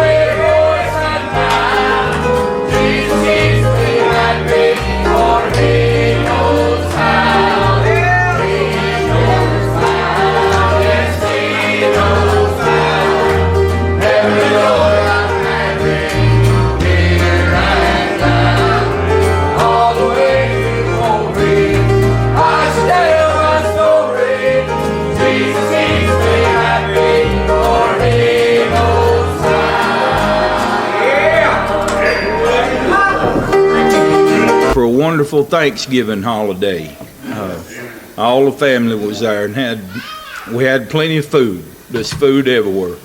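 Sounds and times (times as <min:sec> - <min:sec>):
instrumental accompaniment: 0:00.0 - 0:35.0
choir singing a gospel hymn: 0:00.0 - 0:39.7.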